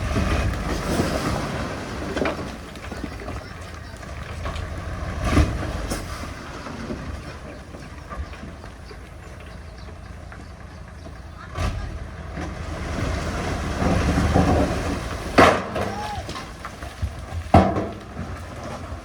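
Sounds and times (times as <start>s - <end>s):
diesel machinery rumbling: 0.0s - 19.0s.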